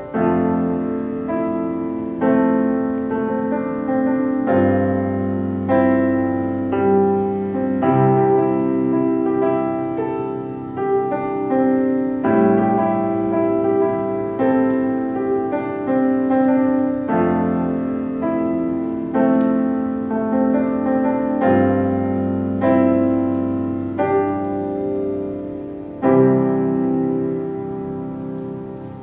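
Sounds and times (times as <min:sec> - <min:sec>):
solo piano: 0:00.0 - 0:29.0.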